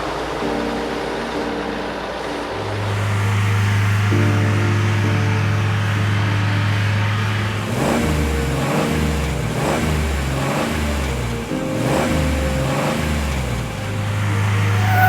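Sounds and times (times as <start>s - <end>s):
low background music: 0.0s - 15.0s.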